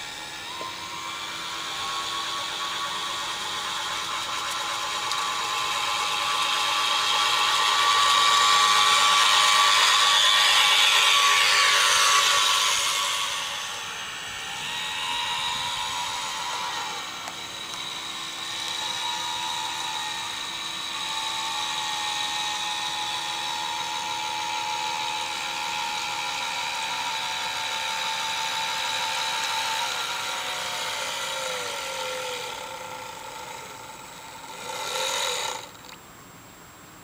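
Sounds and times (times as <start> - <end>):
electric boat motor whine: 0.0 - 36.0.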